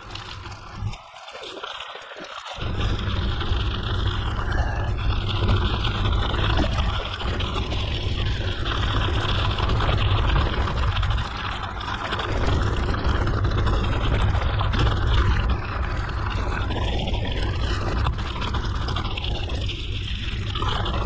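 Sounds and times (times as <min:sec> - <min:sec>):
bike tyre noise: 0:00.0 - 0:21.0.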